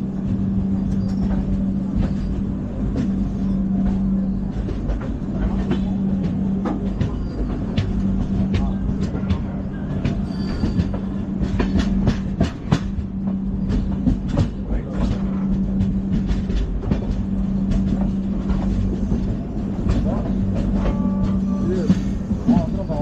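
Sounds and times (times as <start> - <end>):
train rumble and hum: 0.0 - 23.0
wheels clicking on rails: 0.0 - 23.0.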